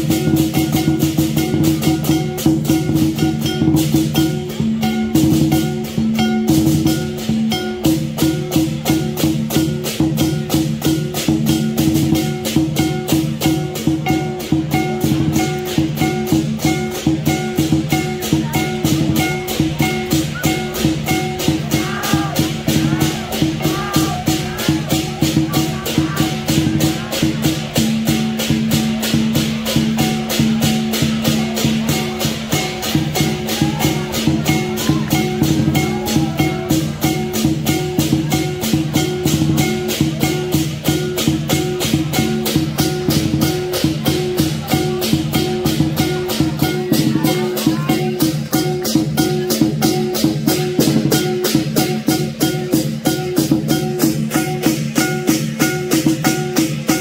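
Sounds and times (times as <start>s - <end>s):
cymbals ringing: 0.0s - 57.0s
drum beat: 0.0s - 57.0s
gong: 0.0s - 57.0s.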